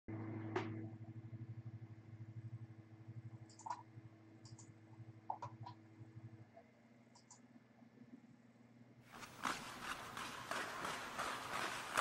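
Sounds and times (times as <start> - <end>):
low pulsing hum: 0.1 - 12.0.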